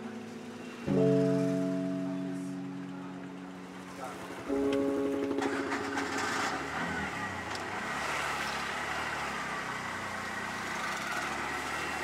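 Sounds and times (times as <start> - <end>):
auto-rickshaw engine drone: 0.0 - 12.0
street traffic: 0.0 - 12.0.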